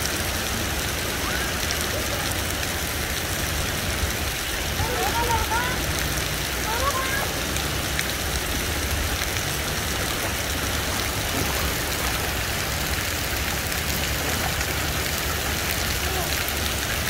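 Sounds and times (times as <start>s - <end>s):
splashing water jets: 0.0s - 17.0s.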